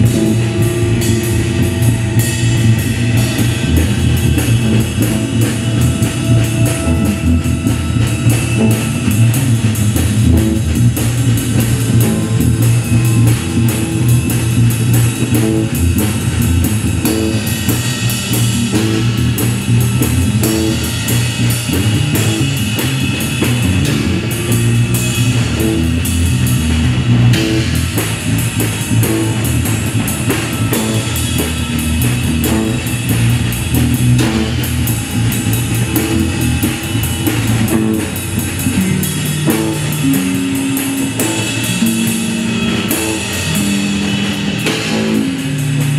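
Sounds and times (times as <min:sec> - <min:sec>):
drum kit with cymbals: 0:00.0 - 0:45.9
electric bass low line: 0:00.0 - 0:45.9
electric guitar: 0:00.0 - 0:45.9.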